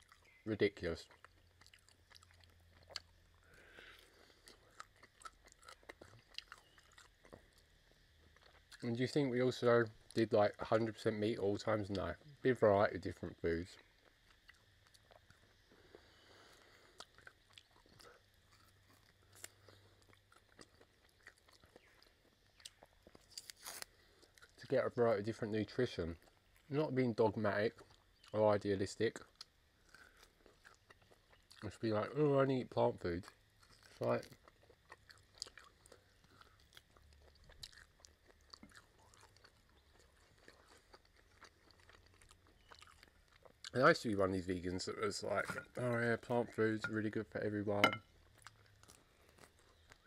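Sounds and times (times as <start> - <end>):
chewing and gnawing meat: 0.0 - 12.3, 13.6 - 28.4, 29.0 - 50.0.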